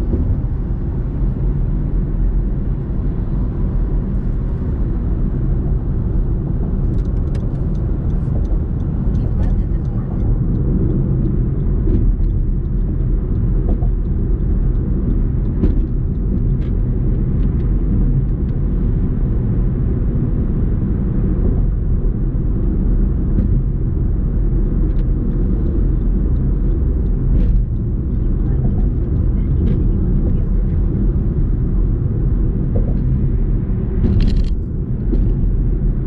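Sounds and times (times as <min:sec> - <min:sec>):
car road rumble: 0:00.0 - 0:36.0.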